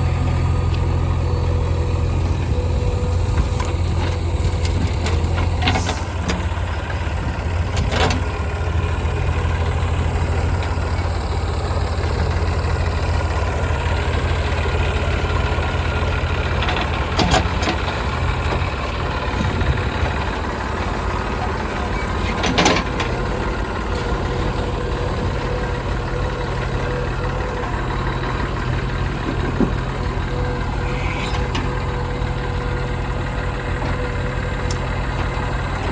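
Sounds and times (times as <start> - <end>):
heavy diesel engine running: 0.0 - 35.9.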